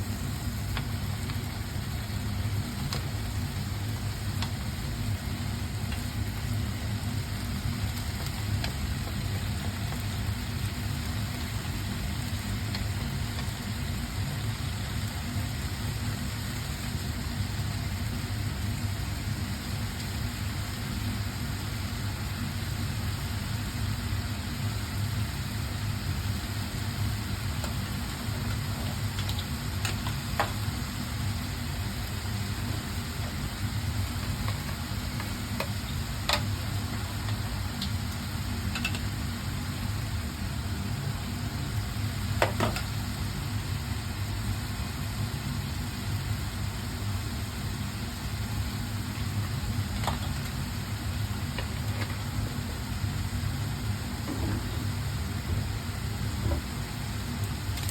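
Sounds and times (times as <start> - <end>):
food sizzling in a pan: 0.0 - 57.9.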